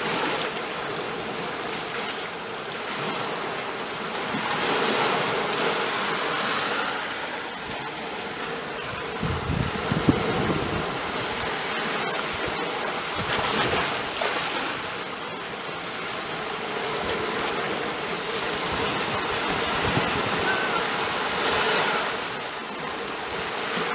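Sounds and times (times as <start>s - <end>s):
sea waves washing in: 0.0s - 23.9s.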